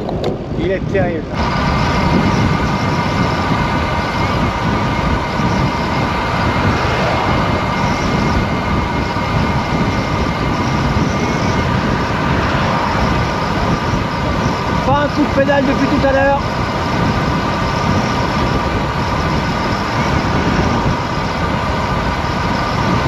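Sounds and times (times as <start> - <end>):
wind buffeting microphone: 0.0 - 23.0
faint steady whine: 0.3 - 23.0.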